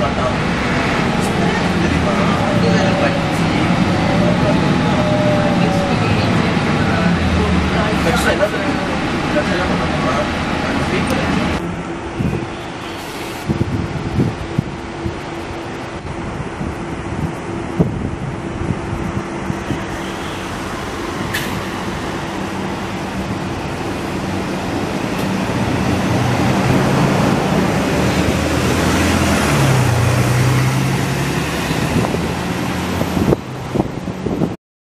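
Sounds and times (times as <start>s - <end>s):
bus diesel engine running: 0.0s - 34.6s.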